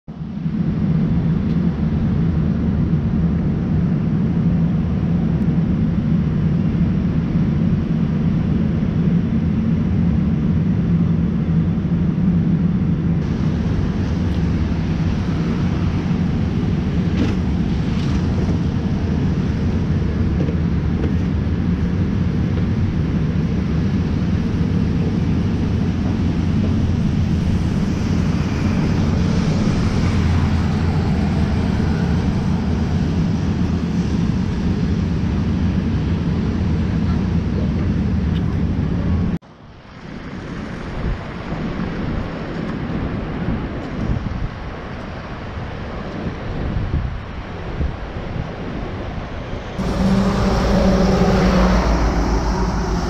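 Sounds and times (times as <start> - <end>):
distant city traffic hum: 0.1 - 53.0.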